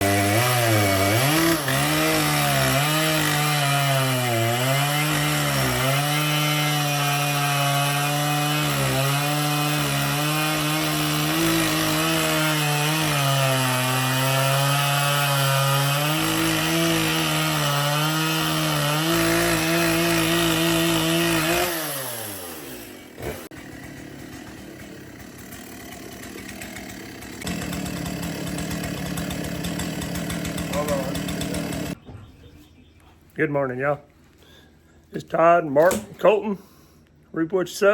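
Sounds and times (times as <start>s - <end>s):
band blade cutting log: 0.0s - 32.0s
sawmill engine running: 0.0s - 32.0s.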